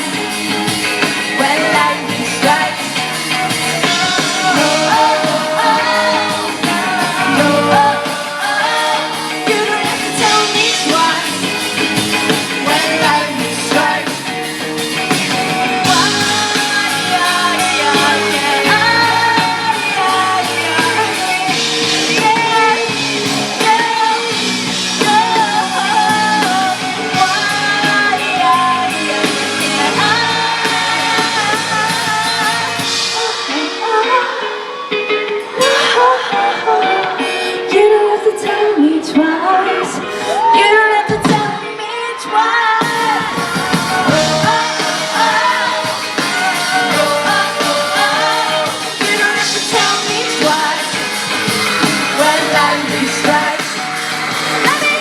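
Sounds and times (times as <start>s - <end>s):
person singing: 0.0s - 55.0s
pop-rock band playing: 0.0s - 55.0s.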